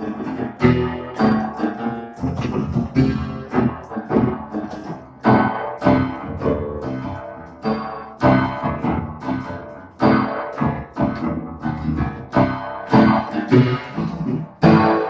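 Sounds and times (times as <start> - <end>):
piano chords on keyboard: 0.0 - 15.0.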